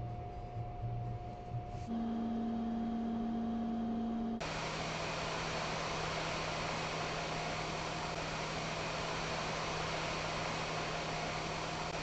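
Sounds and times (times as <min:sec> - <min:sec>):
electrical hum: 0:00.0 - 0:12.0
hot air blower hissing: 0:01.9 - 0:12.0.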